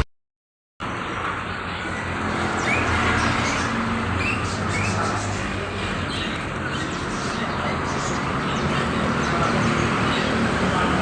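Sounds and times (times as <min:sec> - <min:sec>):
caged birds chirping: 0:00.8 - 0:11.0
road traffic noise: 0:00.8 - 0:11.0.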